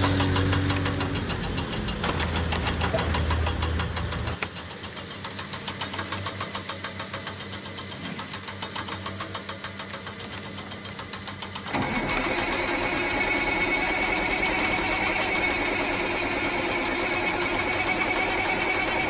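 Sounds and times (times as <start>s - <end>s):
engine knocking clatter: 0.0s - 19.0s.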